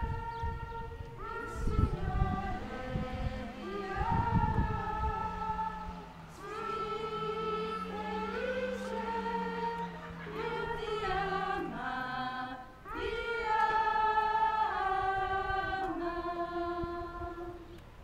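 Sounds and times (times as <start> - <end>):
women singing a hymn: 0.0 - 18.0.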